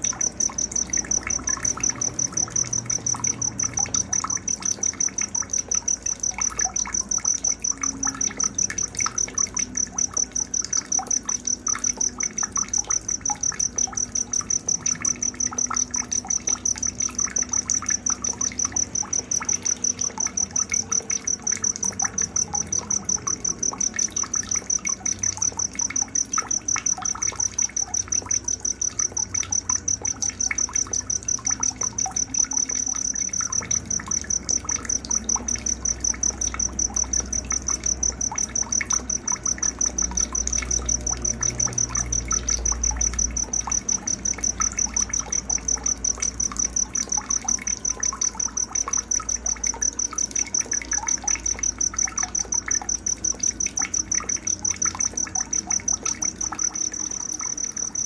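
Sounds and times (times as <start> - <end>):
cricket chirping: 0.0 - 58.0
water trickling: 0.0 - 58.0.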